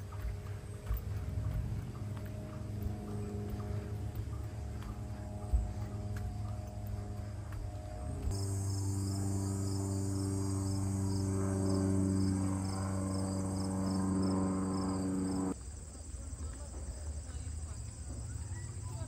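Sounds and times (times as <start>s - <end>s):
steady low hum: 0.0s - 15.6s
crickets chirping: 0.0s - 19.0s.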